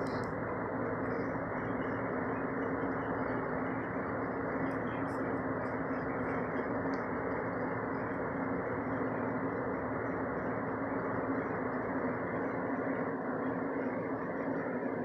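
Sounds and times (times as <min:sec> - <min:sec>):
jet airliner rumble overhead: 0:00.0 - 0:15.0
low hum: 0:00.0 - 0:15.0.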